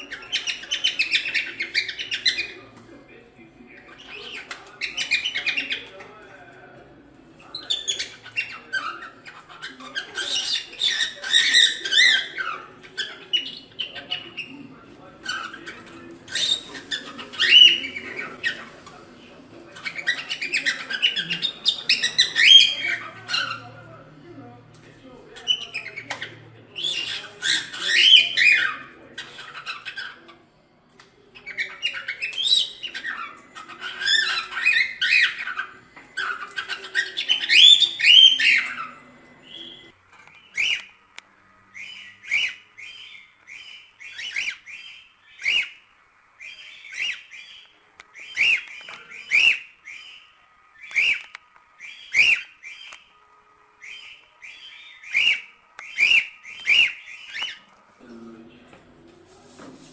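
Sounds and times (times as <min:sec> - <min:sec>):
cockatiel warbling and chirping: 0:00.0 - 0:02.6, 0:03.8 - 0:06.0, 0:07.5 - 0:18.9, 0:19.8 - 0:23.8, 0:25.4 - 0:30.4, 0:31.4 - 0:40.9, 0:41.7 - 0:45.8, 0:46.4 - 0:53.0, 0:53.8 - 0:57.7.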